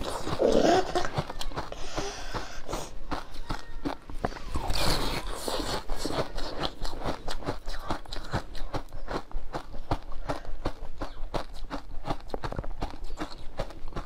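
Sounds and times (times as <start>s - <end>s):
crisp chewing: 0.0s - 14.0s.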